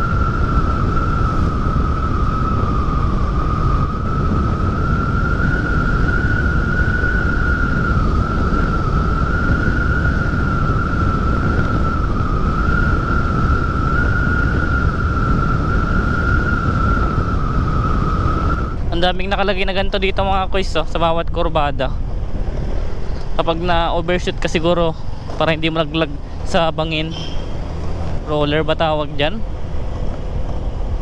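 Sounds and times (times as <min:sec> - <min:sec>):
high wavering scooter whine: 0:00.0 - 0:31.0
wind rumble on microphone: 0:00.0 - 0:31.0.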